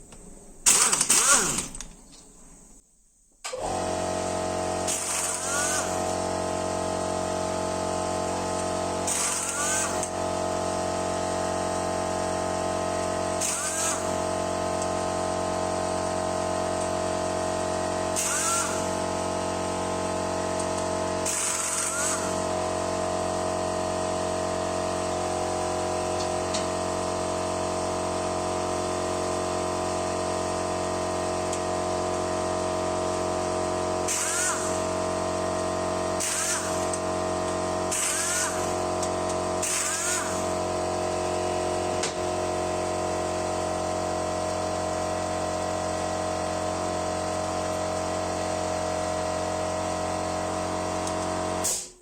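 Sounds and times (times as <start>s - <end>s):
power tool whining: 0.6s - 2.0s, 3.5s - 28.0s, 28.6s - 51.9s.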